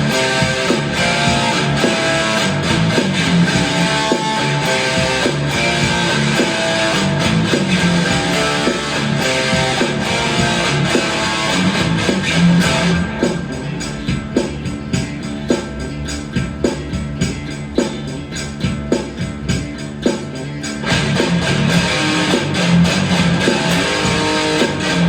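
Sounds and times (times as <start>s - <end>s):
overdriven electric guitar riffs: 0.0s - 25.0s.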